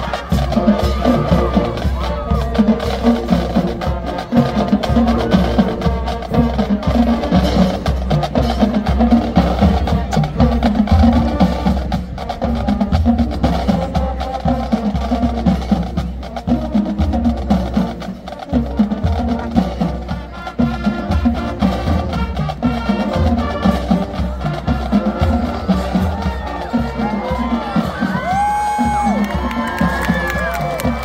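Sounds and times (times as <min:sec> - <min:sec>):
bass drums and percussion: 0:00.0 - 0:31.0.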